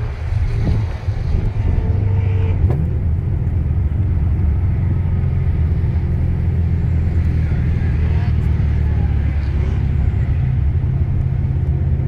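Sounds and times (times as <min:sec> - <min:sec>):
car engine rumbling steadily: 0:00.0 - 0:12.0.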